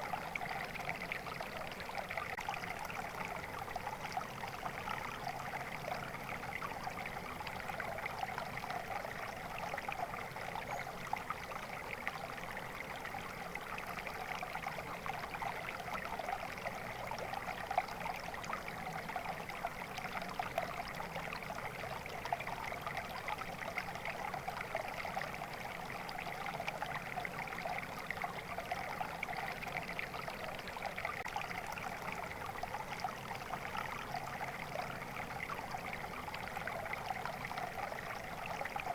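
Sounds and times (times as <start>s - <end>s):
stream running and trickling: 0.0s - 38.9s.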